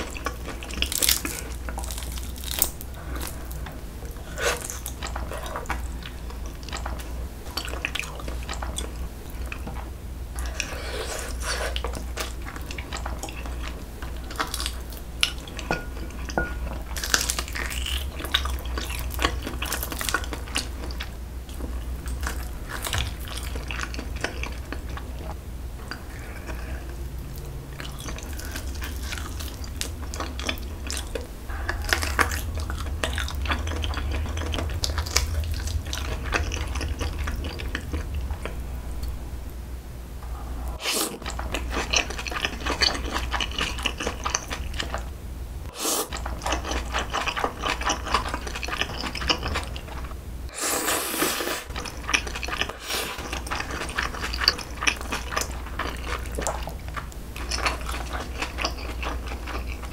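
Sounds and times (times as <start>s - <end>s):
wet chewing and smacking: 0.0s - 39.2s, 41.1s - 45.1s, 46.1s - 50.2s, 51.6s - 59.9s
steady low hum: 0.0s - 59.9s.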